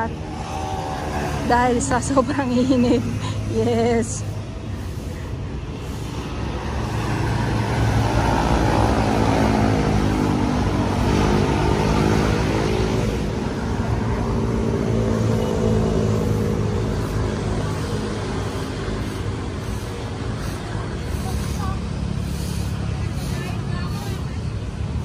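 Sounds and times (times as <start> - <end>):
cars passing: 0.0 - 25.0
motorcycles passing: 0.0 - 25.0.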